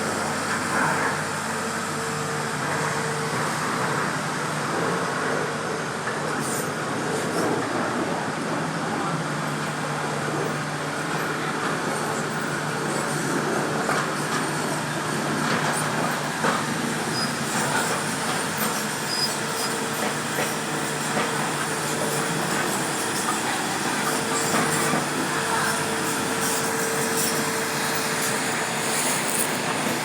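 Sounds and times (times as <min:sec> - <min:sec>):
excavator engine drone: 0:00.0 - 0:30.0.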